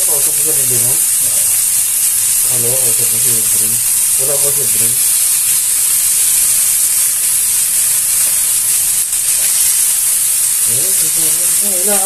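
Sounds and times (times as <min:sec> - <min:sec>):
ribs sizzling in skillet: 0:00.0 - 0:12.0.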